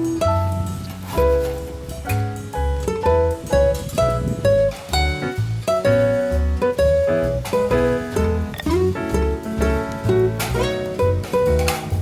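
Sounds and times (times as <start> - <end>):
bass line: 0.0 - 12.0
plucked acoustic guitar: 0.0 - 12.0.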